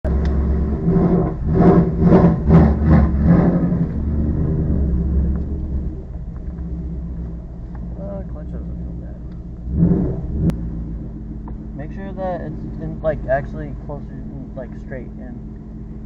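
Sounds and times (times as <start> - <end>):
car engine revving and idling: 0.0 - 16.0.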